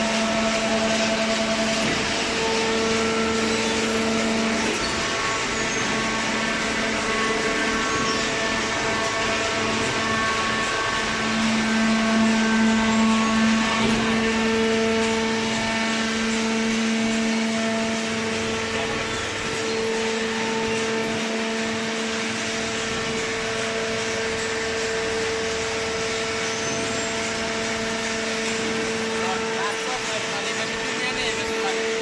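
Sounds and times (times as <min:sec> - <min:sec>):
hydraulic baler motor humming: 0:00.0 - 0:32.0.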